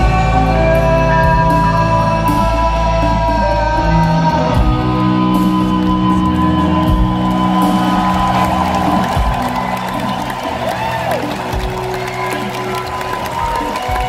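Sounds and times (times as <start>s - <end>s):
rock band playing chords: 0.0s - 14.0s.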